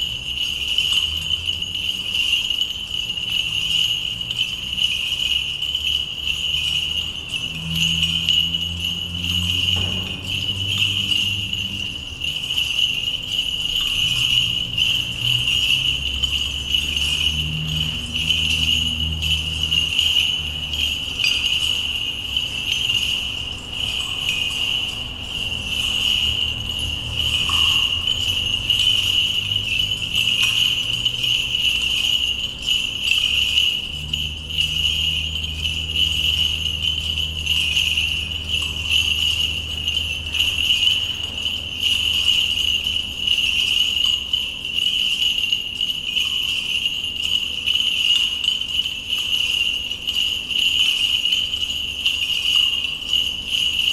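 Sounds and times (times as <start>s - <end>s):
small bells jingling on chains: 0.0s - 53.9s.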